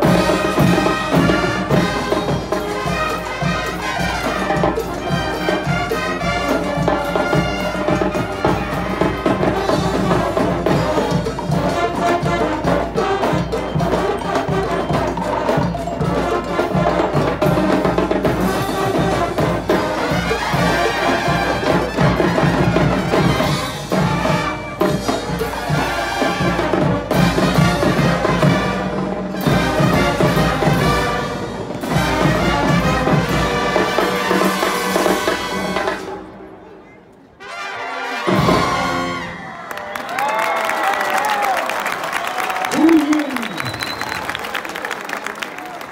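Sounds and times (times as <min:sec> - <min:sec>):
marching band brass: 0:00.0 - 0:45.9.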